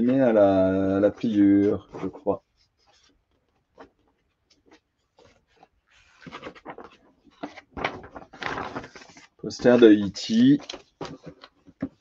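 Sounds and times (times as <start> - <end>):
paper poster crinkling: 0.0 - 12.0.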